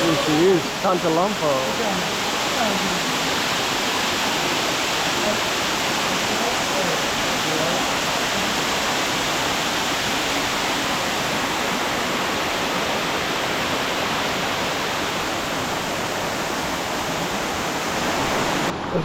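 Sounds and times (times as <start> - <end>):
waterfall rushing over rock: 0.0 - 19.0.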